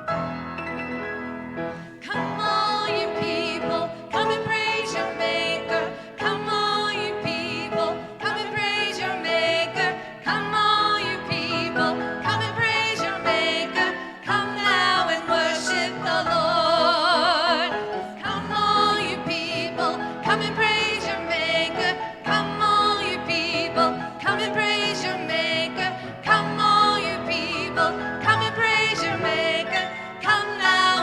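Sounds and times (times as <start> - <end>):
person singing with vibrato: 2.0 - 31.0.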